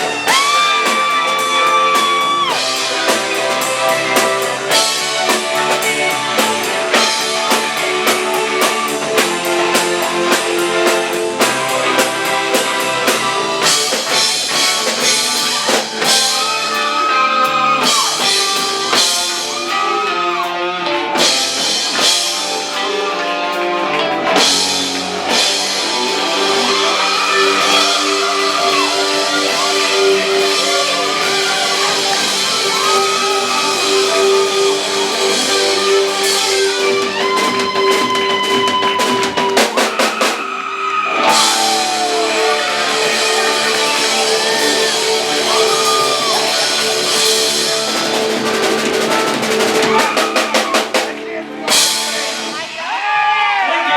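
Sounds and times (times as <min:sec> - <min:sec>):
lead guitar bent notes: 0:00.0 - 0:52.7
rock band playing live: 0:00.0 - 0:53.9.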